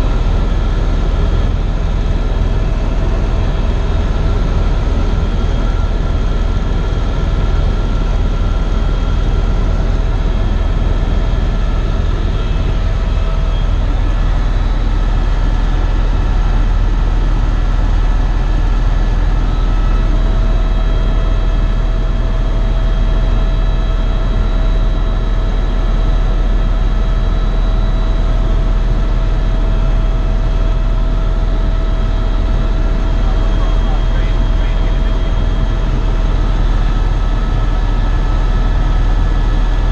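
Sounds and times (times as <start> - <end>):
helicopter rotor rumble: 0.0 - 39.9
turbine whine: 0.0 - 39.9.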